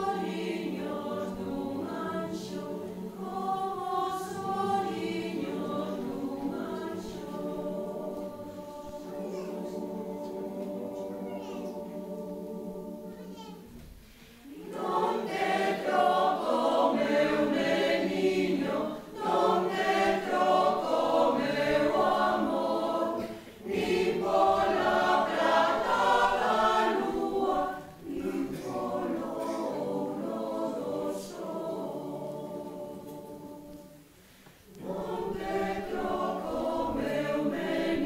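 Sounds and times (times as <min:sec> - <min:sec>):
mixed choir singing a lullaby: 0:00.0 - 0:38.0.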